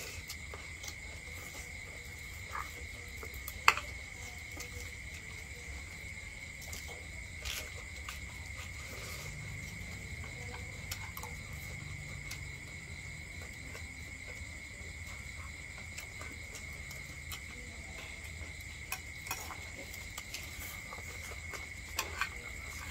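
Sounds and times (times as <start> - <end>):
high-pitched insect chorus: 0.0 - 22.9.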